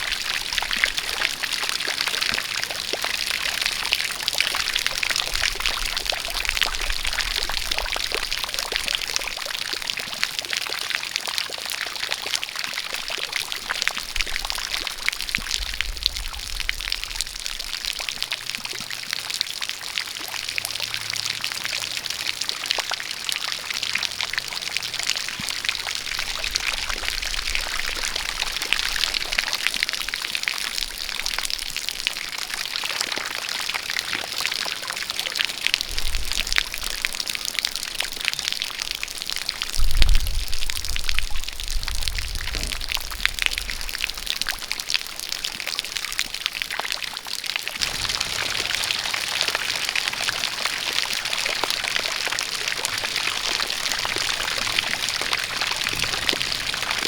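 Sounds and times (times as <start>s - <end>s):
rain patter: 0.0s - 57.0s
water pouring from spout: 0.0s - 57.0s.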